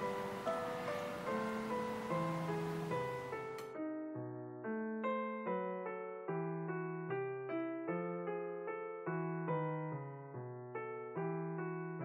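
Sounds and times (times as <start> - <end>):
soft keyboard tune: 0.0 - 12.0.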